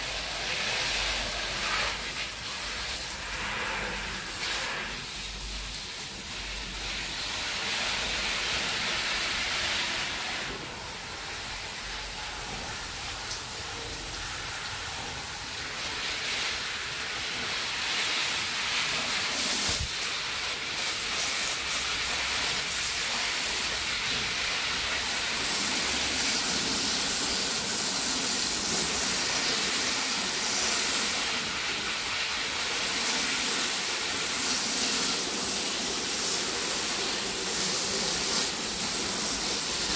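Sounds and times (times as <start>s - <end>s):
steady hissing noise: 0.0s - 39.9s.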